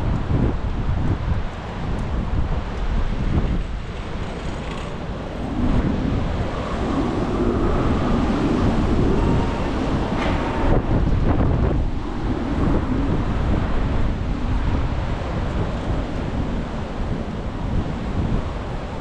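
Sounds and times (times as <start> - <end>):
city traffic rumble: 0.0 - 19.0
wind buffeting microphone: 0.0 - 19.0.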